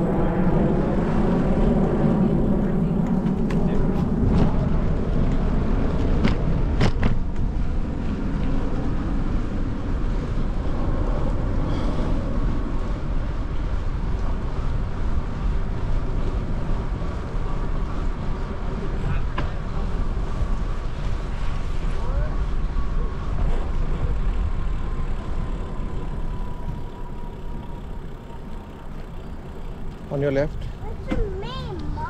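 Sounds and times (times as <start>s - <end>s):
wind rushing over microphone: 0.0s - 29.9s
bicycle tyres rumbling on trail: 0.0s - 32.0s.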